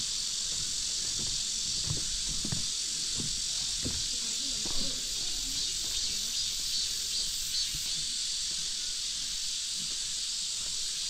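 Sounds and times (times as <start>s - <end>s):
cicadas droning: 0.0s - 11.0s
pulsing insect call: 0.0s - 11.0s.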